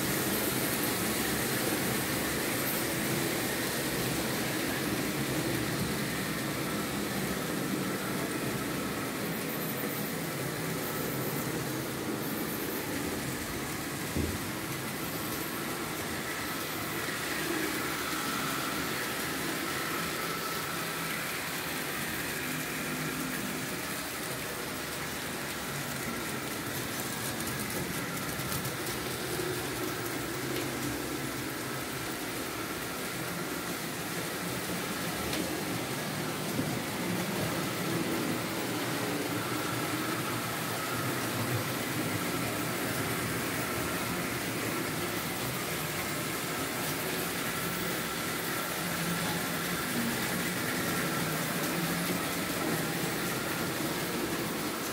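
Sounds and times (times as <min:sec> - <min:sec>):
electric model train motors whirring: 0:00.0 - 0:54.9
wheels rolling on track: 0:00.0 - 0:54.9.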